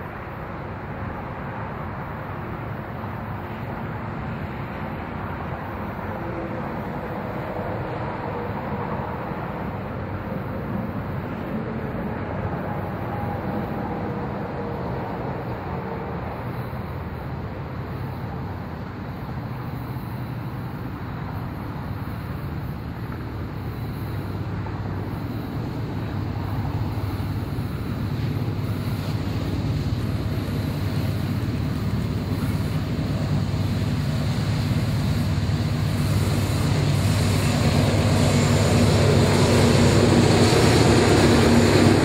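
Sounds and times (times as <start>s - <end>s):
faint high whine: 0.0s - 42.0s
train rumbling past: 0.0s - 42.0s.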